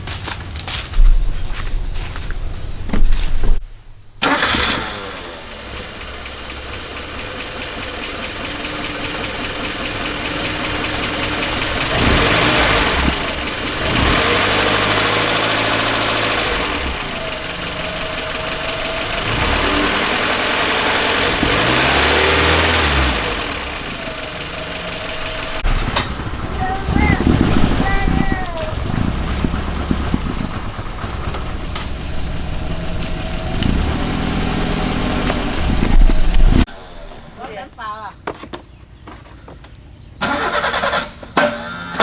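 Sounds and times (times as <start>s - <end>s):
engine starting and revving: 0.2s - 3.6s, 4.2s - 37.7s, 40.2s - 42.0s.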